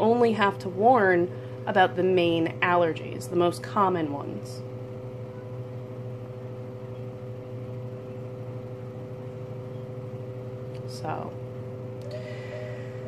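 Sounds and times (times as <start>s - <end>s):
machine low hum: 0.0s - 13.0s.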